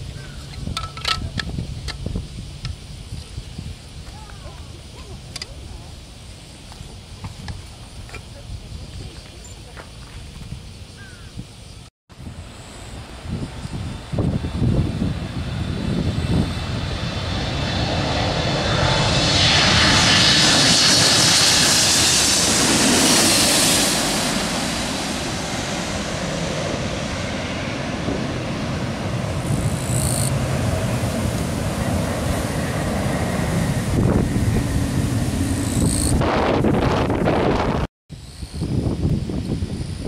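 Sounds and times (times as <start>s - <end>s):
jet airliner passing overhead: 0.0s - 40.0s.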